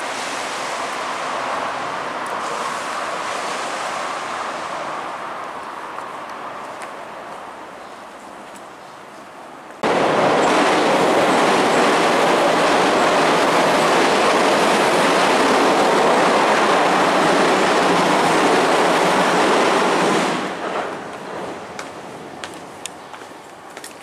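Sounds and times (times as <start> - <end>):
train wheels rushing on rails: 0.0 - 6.1, 9.8 - 23.3.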